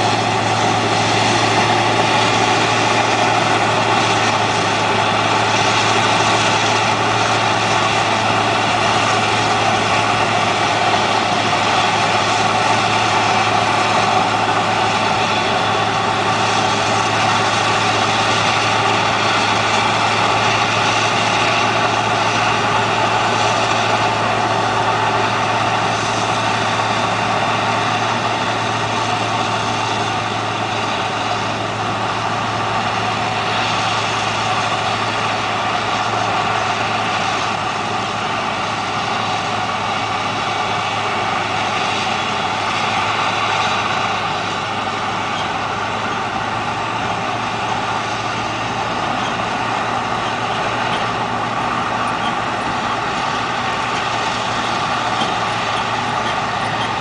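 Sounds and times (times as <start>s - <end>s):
harvester engine and chopping drone: 0.0s - 57.0s.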